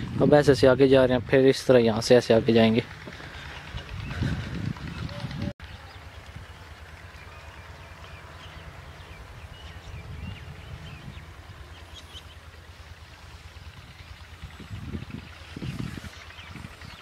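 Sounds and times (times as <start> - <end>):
wind rumble on microphone: 0.0 - 6.6, 8.6 - 17.0.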